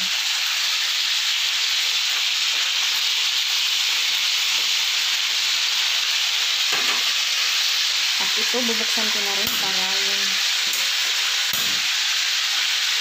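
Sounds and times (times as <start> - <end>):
meat sizzling in frying pan: 0.0 - 13.0.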